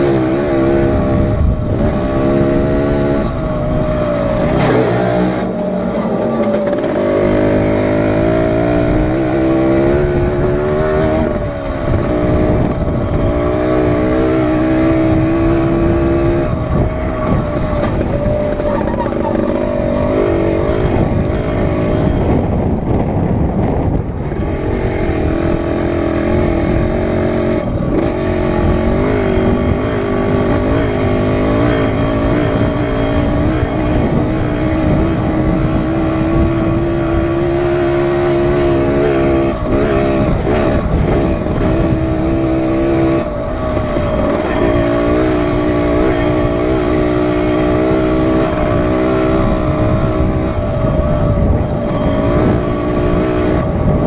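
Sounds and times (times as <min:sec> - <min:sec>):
dirt bike engine revving: 0:00.0 - 0:54.0
wind rumble on microphone: 0:00.0 - 0:54.0.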